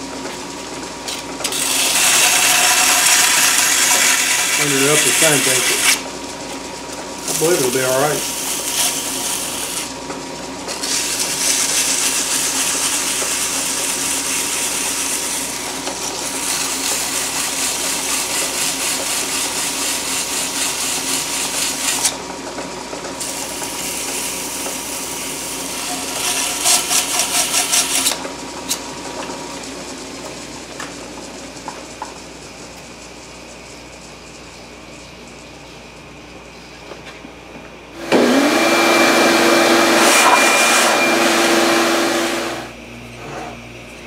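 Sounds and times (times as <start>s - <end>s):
metal lathe running: 1.0s - 31.6s, 38.0s - 42.8s.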